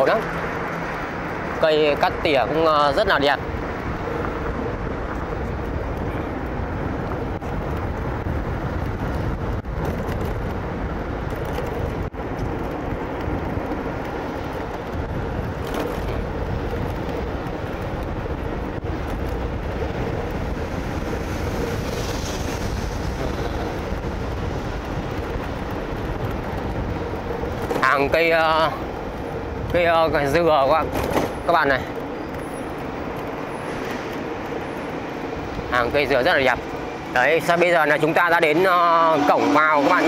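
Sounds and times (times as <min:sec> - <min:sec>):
road vehicle low rumble: 0:00.0 - 0:40.0.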